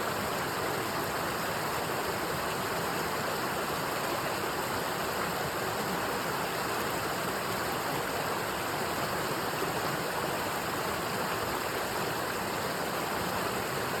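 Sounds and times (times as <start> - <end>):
stream water flowing over rocks: 0.0 - 14.0.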